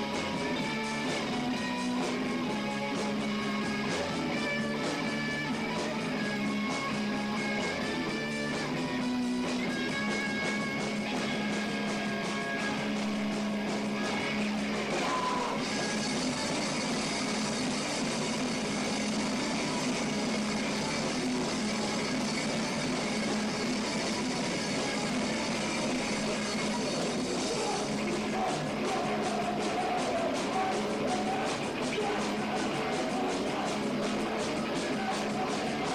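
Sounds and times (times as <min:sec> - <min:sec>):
drum strokes: 0:00.0 - 0:35.9
punk rock band playing: 0:00.0 - 0:35.9.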